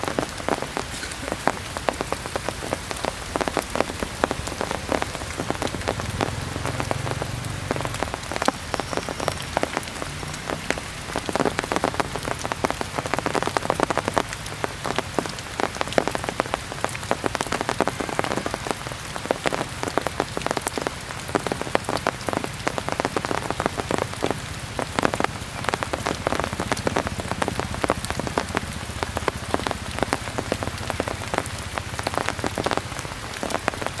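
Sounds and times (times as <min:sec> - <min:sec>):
heavy rain on hard surface: 0:00.0 - 0:34.0.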